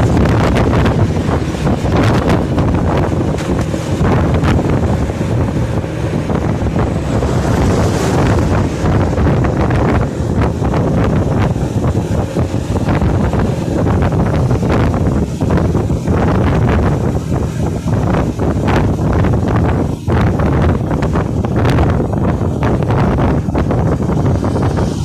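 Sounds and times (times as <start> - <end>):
wind buffeting the microphone: 0.0 - 25.0.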